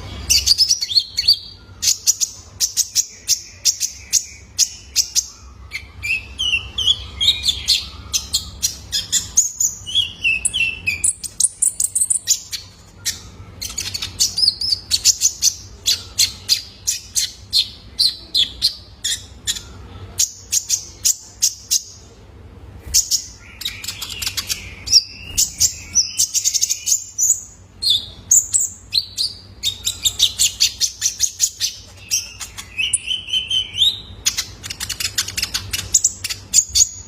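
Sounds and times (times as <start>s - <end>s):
sunbird singing high chirps: 0.0s - 22.2s, 22.8s - 37.0s
faint low hum: 0.0s - 37.0s.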